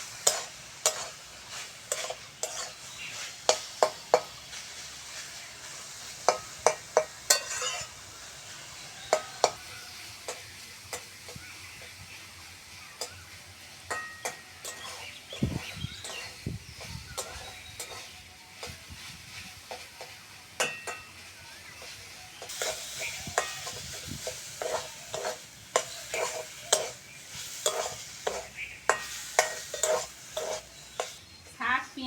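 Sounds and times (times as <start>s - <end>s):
spatula scraping against pan: 0.0s - 11.4s, 13.8s - 21.2s, 21.8s - 31.2s
oil sizzling in pan: 0.0s - 32.0s.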